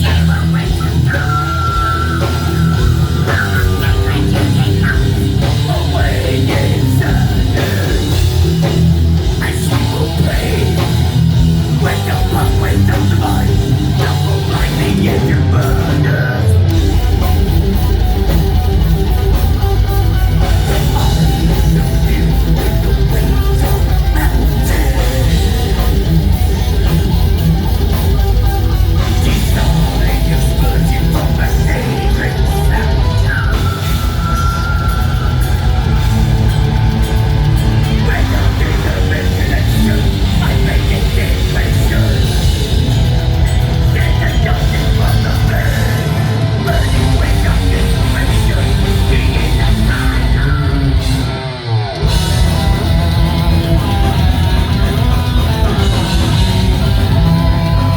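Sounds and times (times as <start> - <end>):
live rock band: 0.0 - 57.9.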